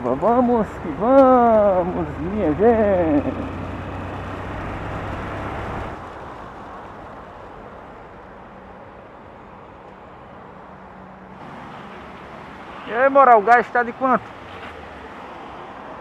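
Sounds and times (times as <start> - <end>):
road and rain hiss: 0.0 - 16.0
vehicle engine drone: 0.0 - 16.0.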